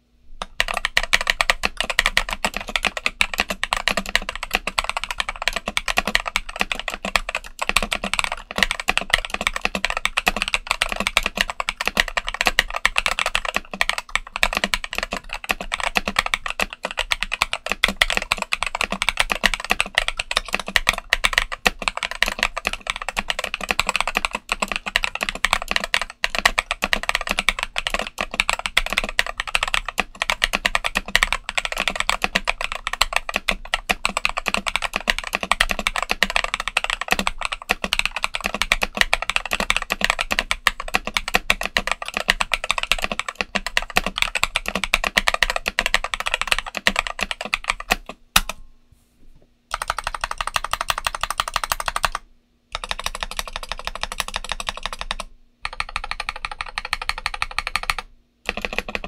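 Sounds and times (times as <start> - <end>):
fast mechanical keyboard typing: 0.4 - 48.6, 49.7 - 59.0.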